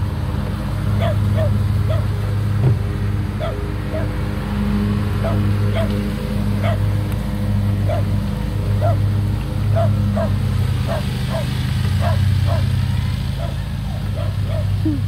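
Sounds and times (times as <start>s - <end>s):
dogs drinking and paddling water: 0.0s - 15.0s
low motor drone: 0.0s - 15.0s.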